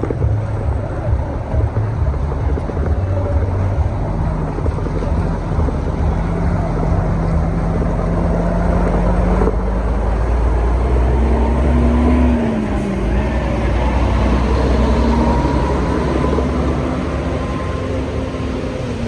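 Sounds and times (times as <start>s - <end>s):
dense rushing noise: 0.0s - 19.0s
engine running: 0.0s - 19.0s.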